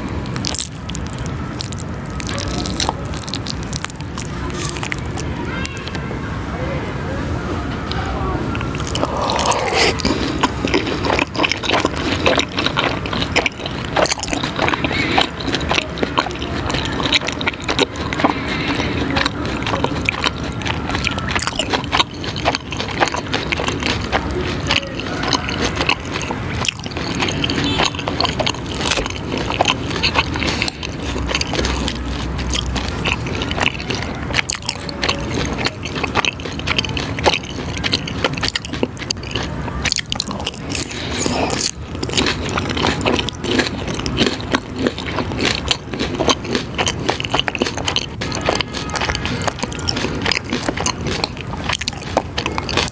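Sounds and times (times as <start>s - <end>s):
food being bitten and chewed: 0.0s - 6.0s, 7.9s - 52.9s.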